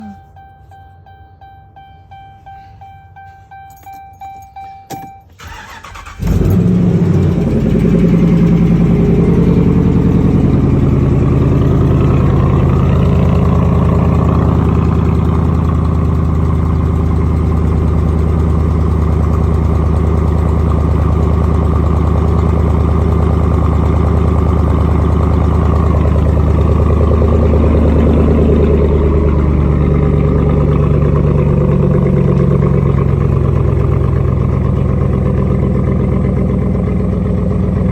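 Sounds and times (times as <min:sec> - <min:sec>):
engine with deep exhaust note: 0:00.0 - 0:37.9.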